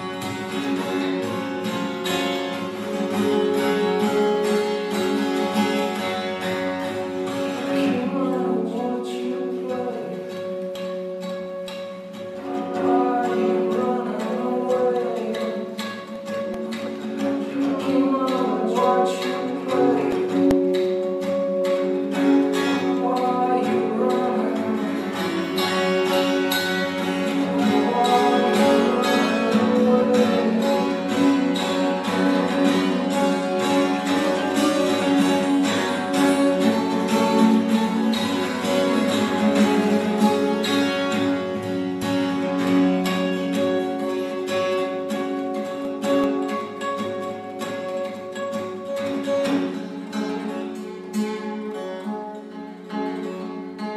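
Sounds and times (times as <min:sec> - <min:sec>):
classical guitar rapid strumming: 0:00.0 - 0:53.9.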